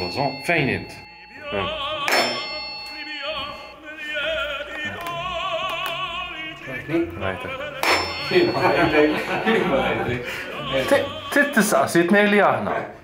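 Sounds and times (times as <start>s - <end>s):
operatic singing: 1.1s - 12.1s.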